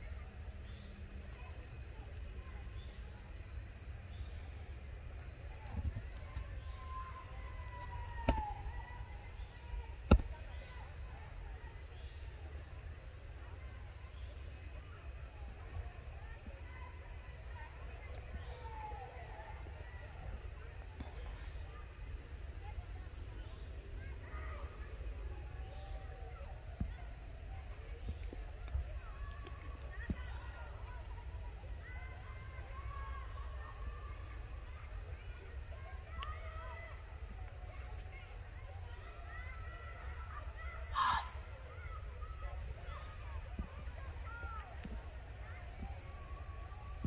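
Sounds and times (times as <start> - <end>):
insects chirping: 0.0 - 47.0.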